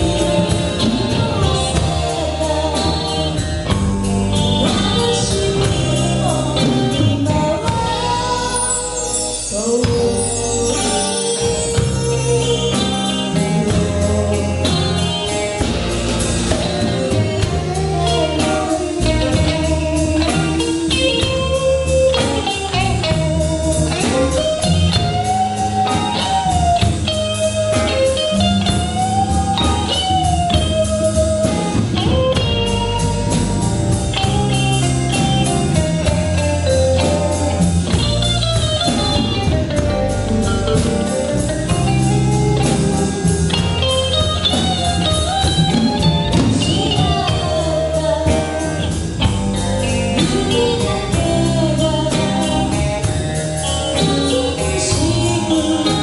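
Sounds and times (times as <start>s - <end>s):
band playing slow song: 0.0s - 56.0s
bending melodic guitar lead: 0.0s - 56.0s.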